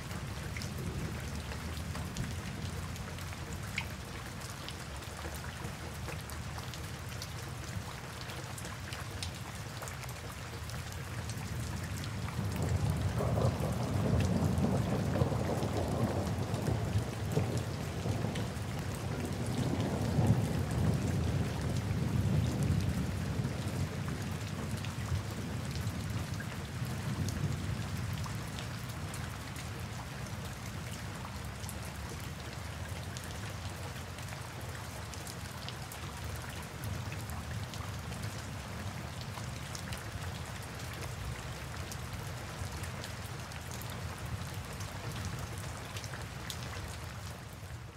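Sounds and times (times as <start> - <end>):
heavy rain pattering: 0.0 - 47.9.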